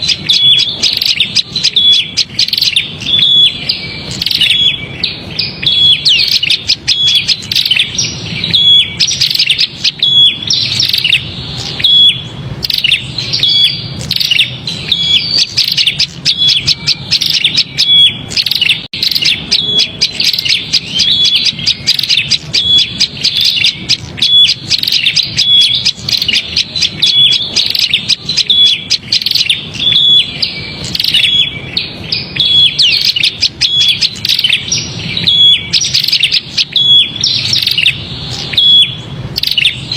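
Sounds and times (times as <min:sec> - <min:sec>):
bird chattering alarm call: 0:00.0 - 0:39.9.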